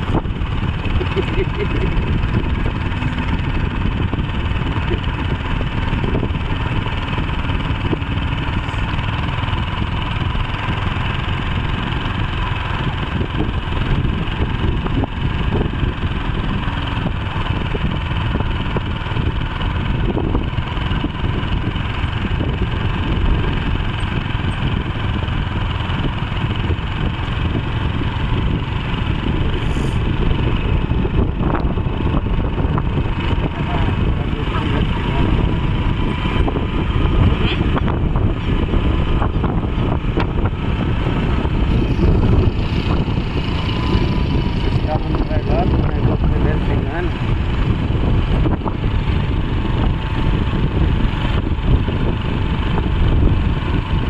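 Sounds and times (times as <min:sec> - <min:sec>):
small engine rumbling: 0:00.0 - 0:54.0.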